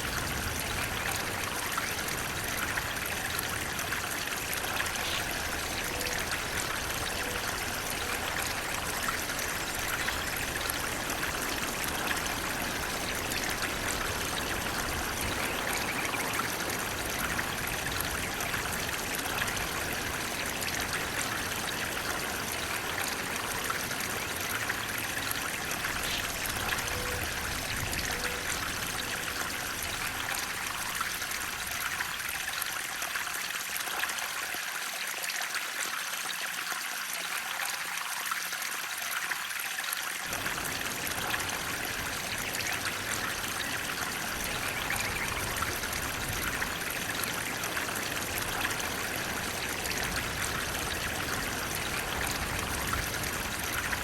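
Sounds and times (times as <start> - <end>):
water rushing and splashing: 0.0 - 54.0.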